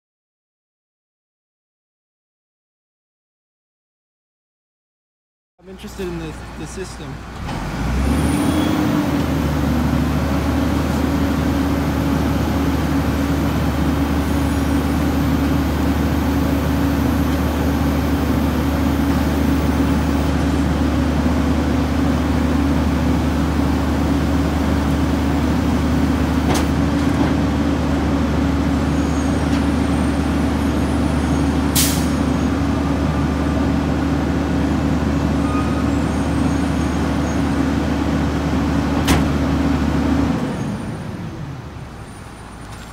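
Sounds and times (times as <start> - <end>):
garbage truck engine drone: 5.6 - 42.9.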